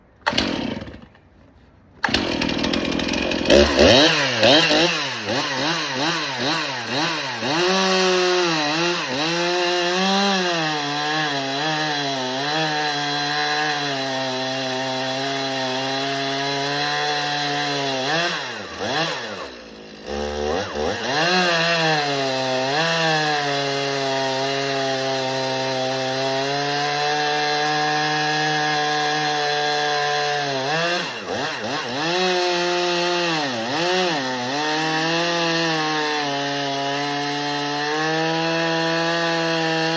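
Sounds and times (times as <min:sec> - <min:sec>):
chainsaw cutting wood: 0:00.2 - 0:01.3, 0:02.0 - 0:39.9.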